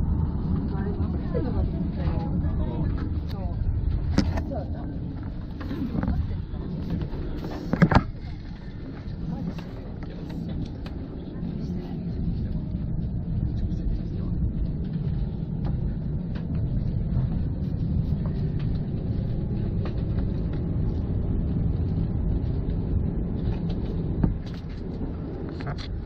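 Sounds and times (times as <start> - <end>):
train car rumble: 0.0 - 26.0.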